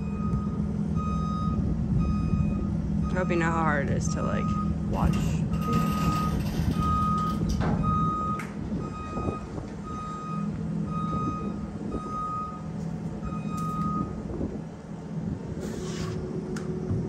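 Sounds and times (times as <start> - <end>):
reversing alarm beeping: 0.0 - 14.2.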